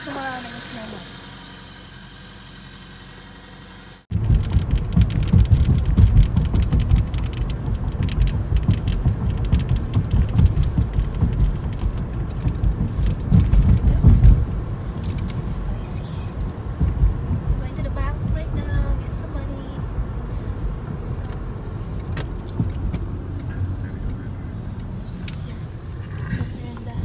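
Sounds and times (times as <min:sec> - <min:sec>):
road and wind rumble: 0:00.0 - 0:27.0.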